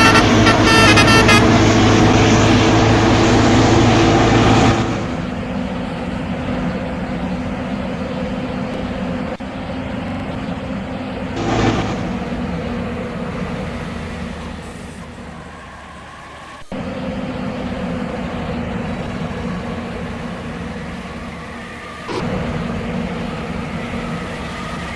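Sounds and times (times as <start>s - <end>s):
heavy vehicle engine running: 0.0s - 24.9s
traffic noise: 0.0s - 24.9s.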